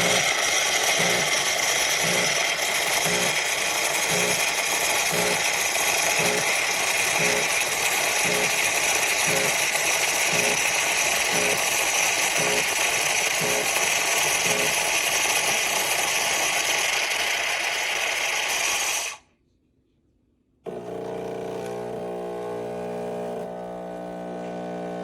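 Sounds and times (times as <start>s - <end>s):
coffee machine whirring and hissing: 0.0s - 19.2s, 20.7s - 25.0s.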